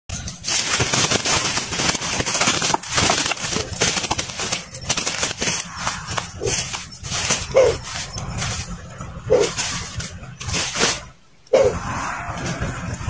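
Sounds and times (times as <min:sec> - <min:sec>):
crackling and rustling noise: 0:00.1 - 0:13.0.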